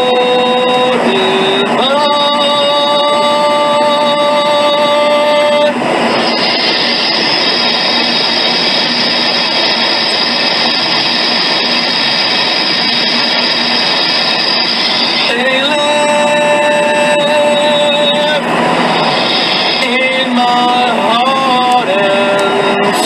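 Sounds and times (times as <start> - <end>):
dense rushing noise: 0.0 - 23.0
steady high whine: 0.0 - 23.0.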